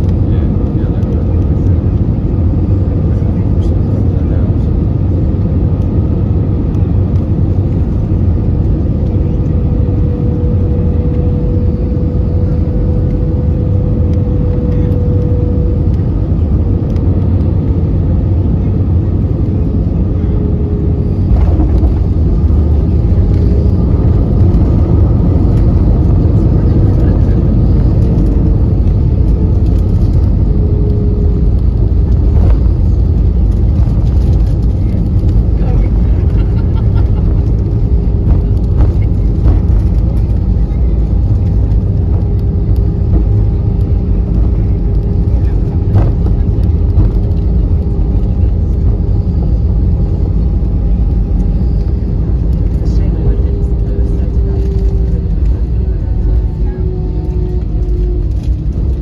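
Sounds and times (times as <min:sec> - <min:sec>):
aircraft rolling on ground rumble: 0:00.0 - 0:59.0
airplane cabin engine drone: 0:00.0 - 0:59.0.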